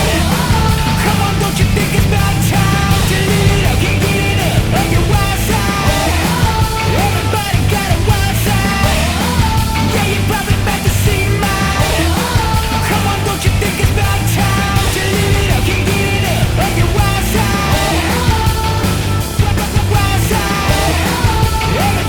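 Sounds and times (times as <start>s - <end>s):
punk rock with shouted singing: 0.0s - 22.0s.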